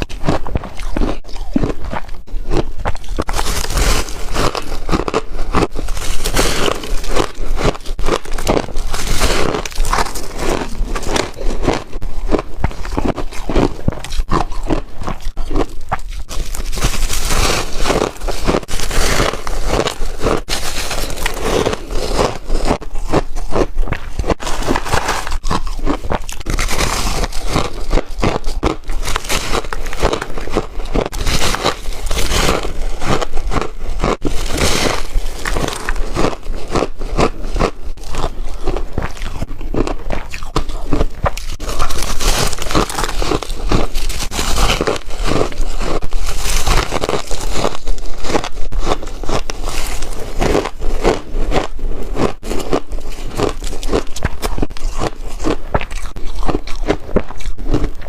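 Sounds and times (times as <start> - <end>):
ice crunching between teeth: 0.0 - 58.0.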